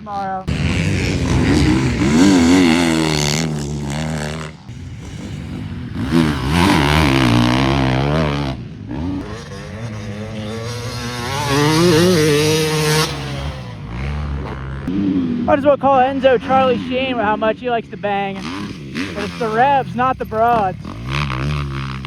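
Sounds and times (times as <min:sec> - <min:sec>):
motocross bikes revving past: 0:00.0 - 0:22.0.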